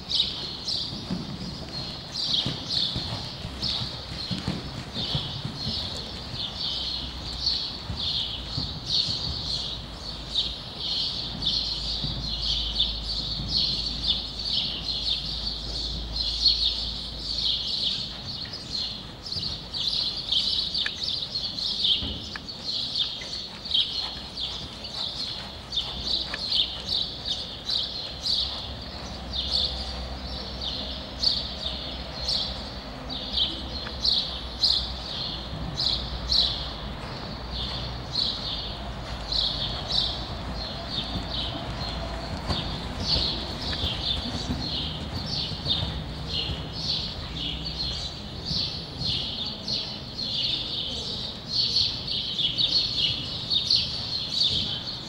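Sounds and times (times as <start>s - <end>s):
horse hooves on sand: 0.0s - 49.9s
small birds chirping: 0.0s - 55.0s.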